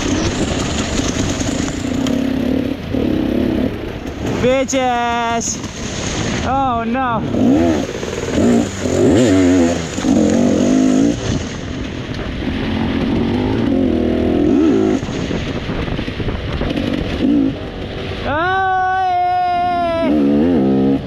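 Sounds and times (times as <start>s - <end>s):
dirt bike engine revving: 0.0s - 18.2s, 19.8s - 21.0s.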